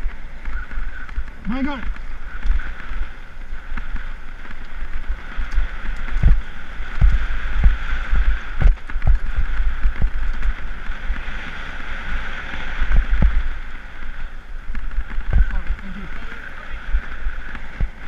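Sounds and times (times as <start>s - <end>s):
tyres rumbling on stones: 0.0s - 11.3s, 14.6s - 18.0s
wind rushing over microphone: 0.0s - 18.0s.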